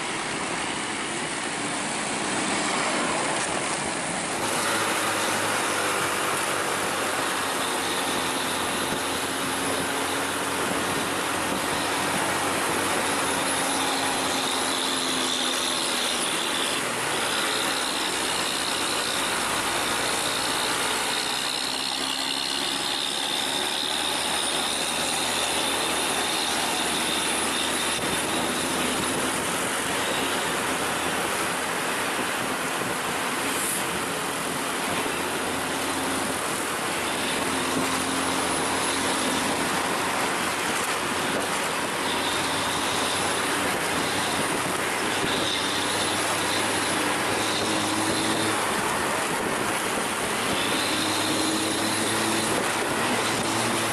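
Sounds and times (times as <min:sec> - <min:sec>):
engine sound: 0:00.0 - 0:53.9
road and wind noise: 0:00.0 - 0:53.9.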